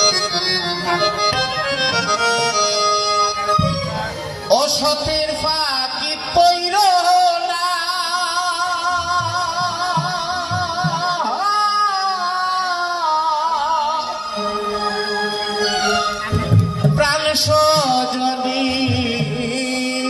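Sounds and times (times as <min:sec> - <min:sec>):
band playing: 0:00.0 - 0:20.0.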